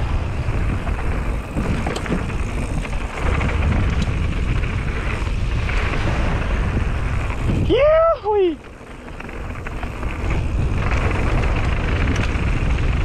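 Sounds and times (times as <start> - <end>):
bike tyres rolling on gravel: 0.0 - 13.0
stones and bike rattling: 0.0 - 13.0
wind on microphone: 0.0 - 13.0.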